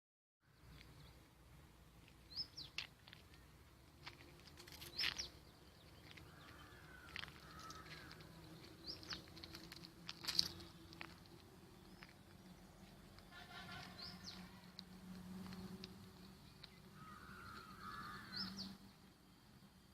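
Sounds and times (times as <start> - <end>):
birds chirping: 2.0 - 19.9.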